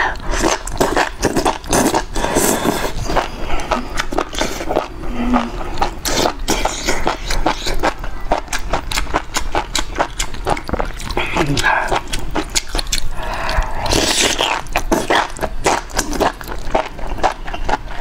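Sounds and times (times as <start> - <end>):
wet mouth clicks and slurps: 0.2 - 18.0.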